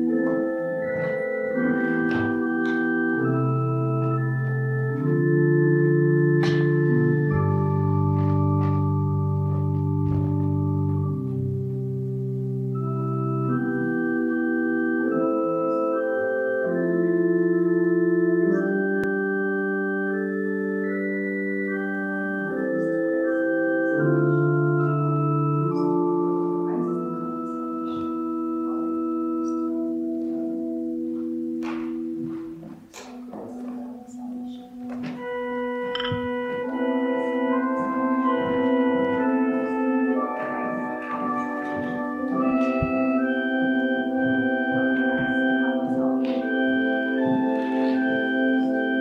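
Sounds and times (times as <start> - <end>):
organ playing slow held chords: 0.0 - 49.0.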